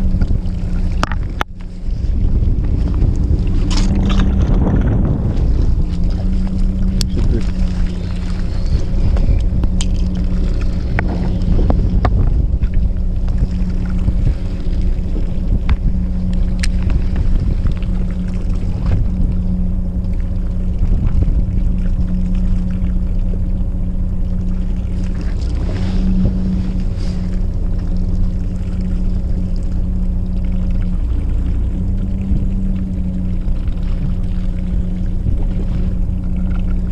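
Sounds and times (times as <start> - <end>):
boat engine humming: 0.0 - 36.9.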